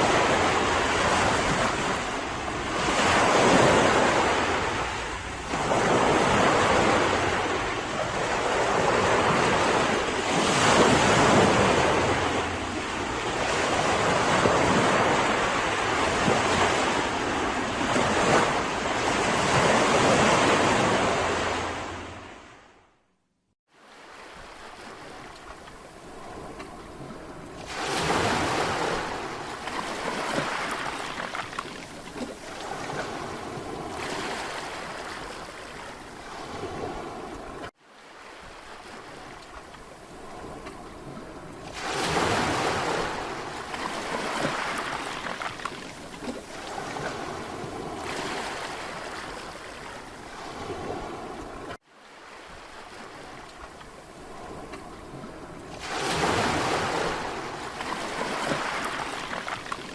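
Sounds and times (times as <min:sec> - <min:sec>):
sea waves breaking on beach: 0:00.0 - 0:22.8, 0:23.7 - 0:59.9.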